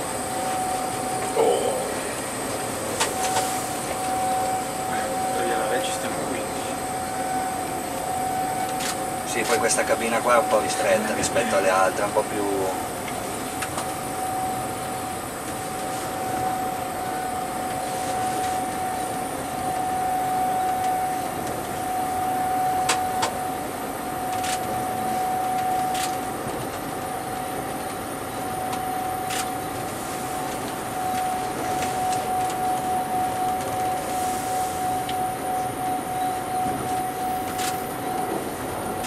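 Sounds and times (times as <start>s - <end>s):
constant whine: 0.0s - 39.0s.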